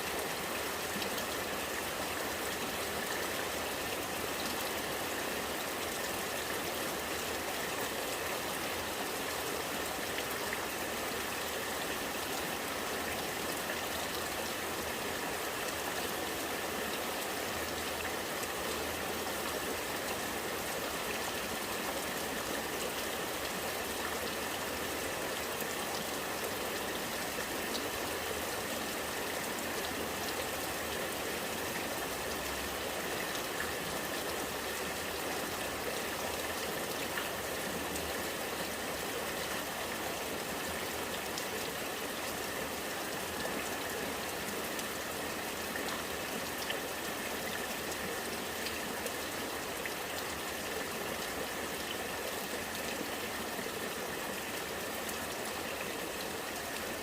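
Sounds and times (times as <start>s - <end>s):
rainwater gurgling: 0.0s - 57.0s.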